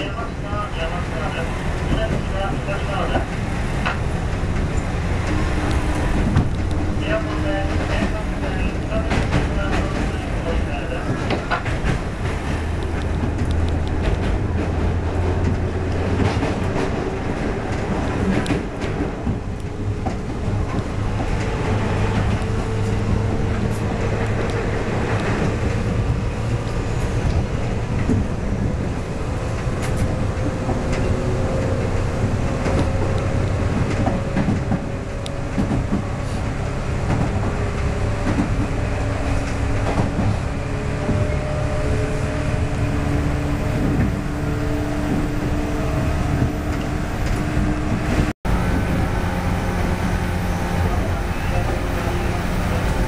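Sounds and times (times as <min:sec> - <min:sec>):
rail joint clicks: 0:00.0 - 0:53.0
train wheels rumbling on rail: 0:00.0 - 0:53.0.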